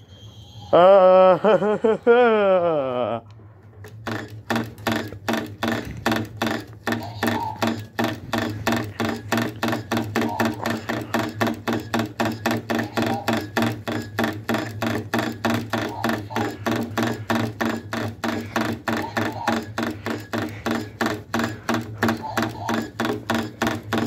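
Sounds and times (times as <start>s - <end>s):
electronic ticking beat: 4.0s - 24.0s.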